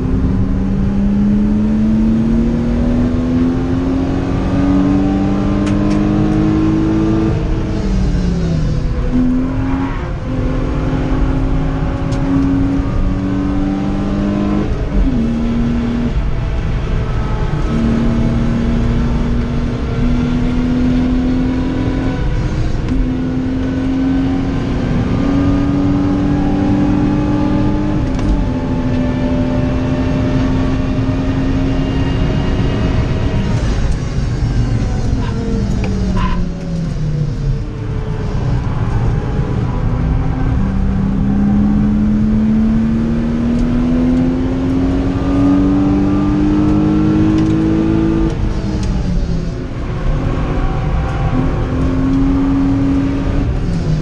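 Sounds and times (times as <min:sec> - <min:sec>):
car engine under full throttle: 0:00.0 - 0:54.0
gear changes: 0:00.0 - 0:54.0.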